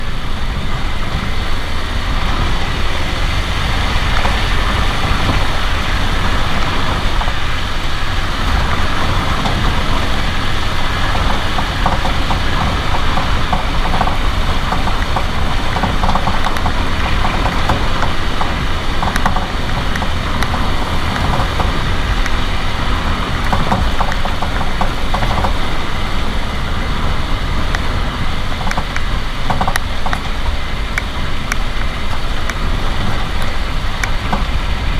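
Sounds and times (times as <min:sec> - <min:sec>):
low engine rumble: 0:00.0 - 0:34.9
suspension knocking: 0:00.0 - 0:34.9.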